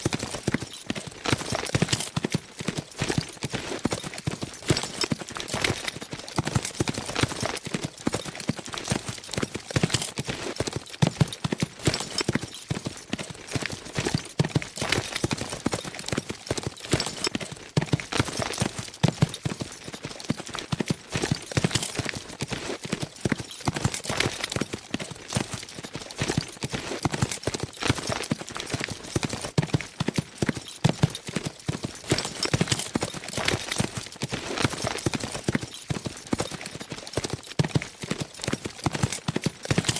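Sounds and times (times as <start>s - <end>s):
horses galloping: 0.0s - 39.9s.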